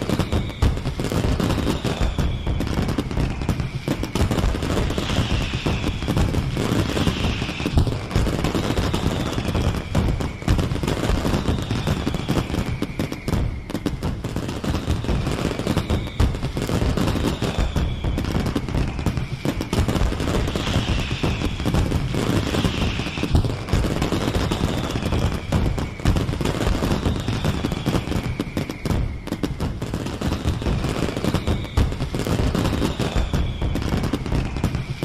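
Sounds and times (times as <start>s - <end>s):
fireworks crackling bangs: 0.0s - 35.0s
fireworks whistles falling: 0.0s - 35.0s.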